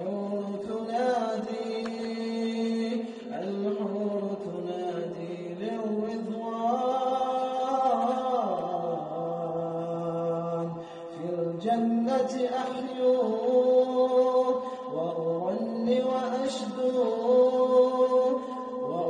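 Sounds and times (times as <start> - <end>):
man singing long held notes: 0.0 - 19.0.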